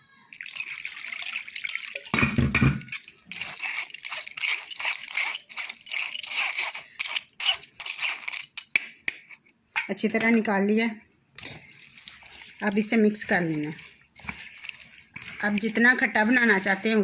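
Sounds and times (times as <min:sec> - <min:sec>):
metal spoon rasping on strainer: 0:00.3 - 0:02.1, 0:02.8 - 0:09.4, 0:11.4 - 0:17.0.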